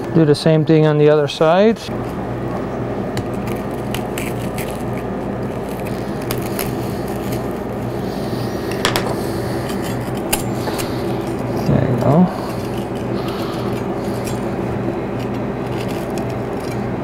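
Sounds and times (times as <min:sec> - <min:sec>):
steady low hum: 0:00.0 - 0:17.0
metal tool scraping crunchy treat: 0:03.4 - 0:17.0.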